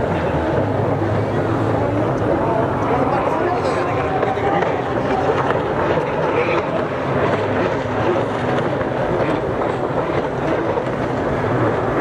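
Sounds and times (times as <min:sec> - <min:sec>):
jet ski engines droning: 0:00.0 - 0:12.0.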